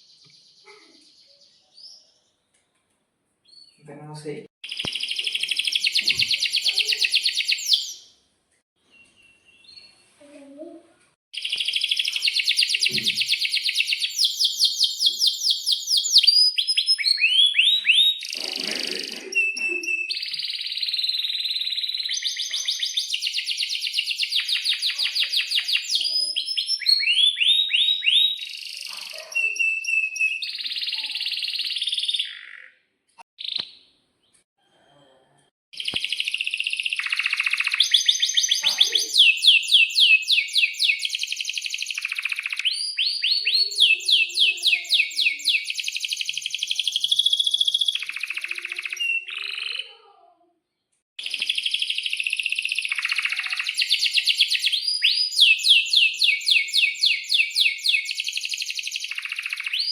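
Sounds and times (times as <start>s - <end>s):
canary singing trills: 4.6s - 8.1s, 11.4s - 34.4s, 35.8s - 50.0s, 51.2s - 59.9s.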